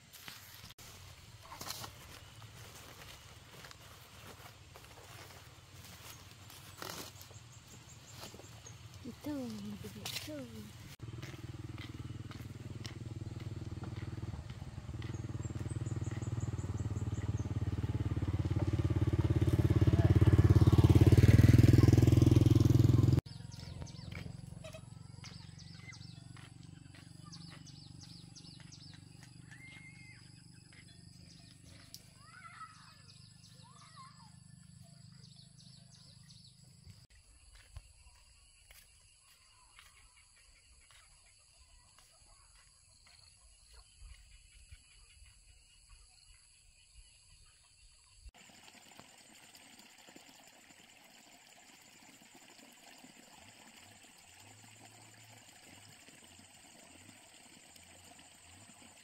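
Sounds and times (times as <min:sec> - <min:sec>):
faint rural outdoor ambience: 0:00.0 - 0:59.0
birds chirping: 0:01.0 - 0:48.3.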